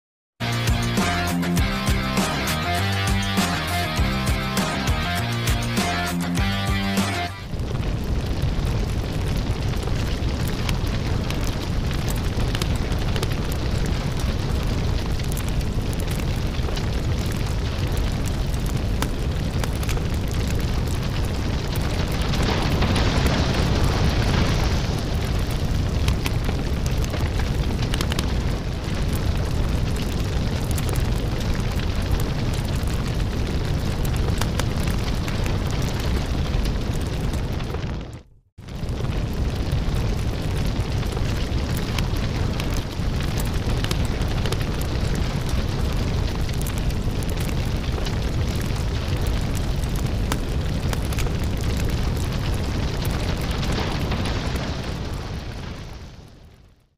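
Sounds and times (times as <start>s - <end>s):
fire burning and crackling: 0.4s - 56.9s.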